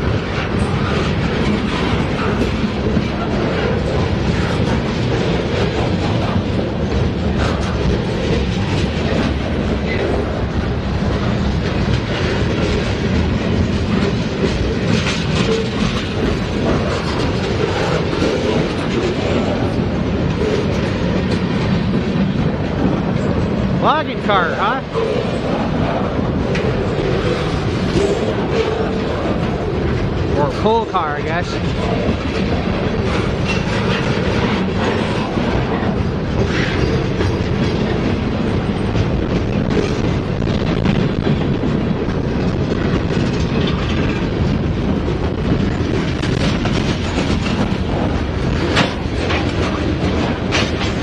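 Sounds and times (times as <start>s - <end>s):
freight train rumbling past: 0.0s - 51.0s
steel wheels clattering on rails: 0.0s - 51.0s.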